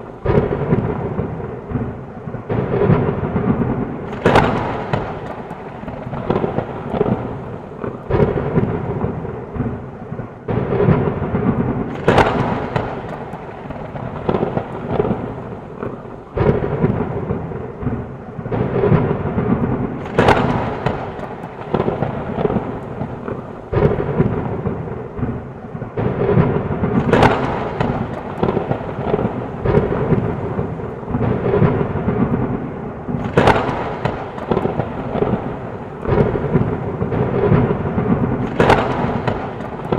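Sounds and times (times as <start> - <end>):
low thunder rumble: 0.0 - 39.9
rain falling steadily: 0.0 - 39.9
sharp thunder cracks: 0.0 - 39.9.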